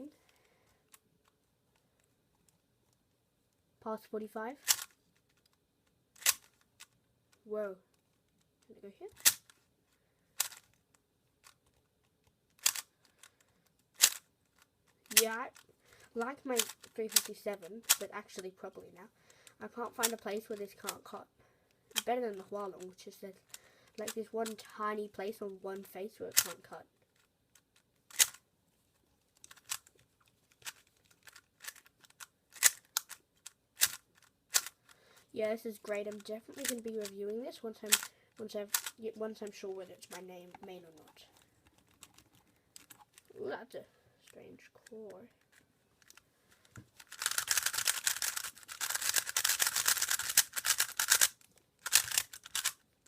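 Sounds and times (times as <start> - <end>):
puzzle cube clacking: 4.6 - 18.8, 19.4 - 21.2, 21.9 - 43.4, 44.7 - 53.0.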